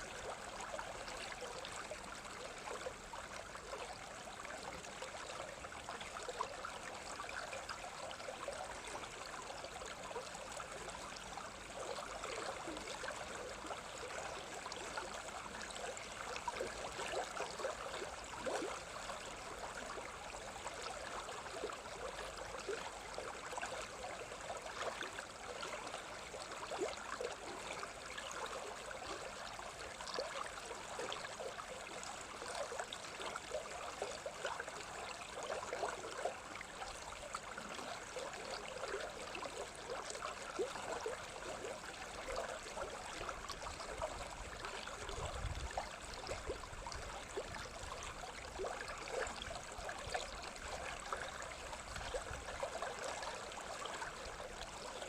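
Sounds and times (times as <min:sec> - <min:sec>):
stream of running water: 0:00.0 - 0:55.0.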